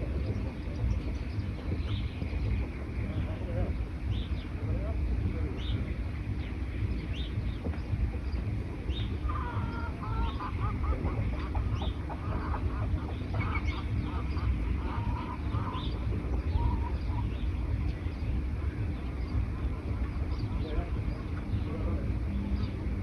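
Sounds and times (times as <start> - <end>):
bird high chirps: 0.0 - 23.0
rapid lower bird calls: 0.0 - 23.0
steady low rumble: 0.0 - 23.0.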